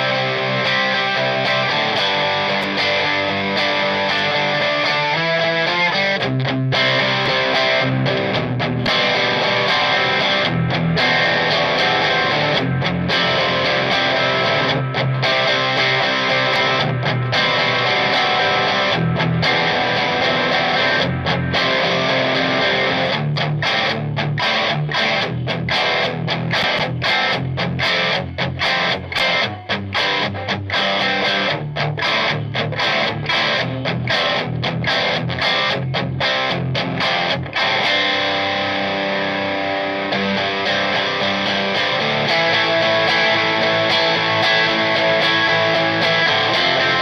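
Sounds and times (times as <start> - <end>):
distorted electric guitar strumming: 0.0 - 47.0.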